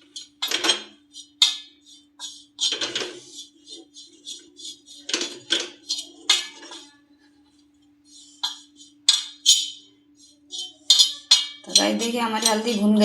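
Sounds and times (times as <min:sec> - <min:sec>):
spatula scraping on griddle: 0:00.0 - 0:07.0, 0:08.1 - 0:13.0
faint steady hum: 0:00.0 - 0:13.0.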